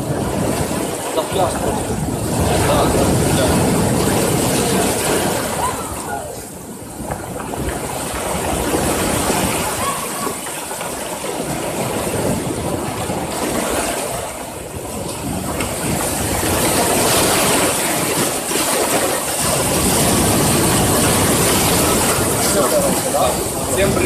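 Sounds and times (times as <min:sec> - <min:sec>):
surf breaking on rocky shore: 0:00.0 - 0:24.0.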